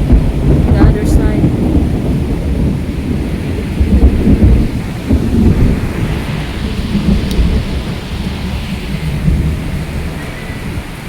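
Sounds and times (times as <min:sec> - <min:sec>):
steady rain: 0:00.0 - 0:11.0
thunder rumbling: 0:00.0 - 0:11.0.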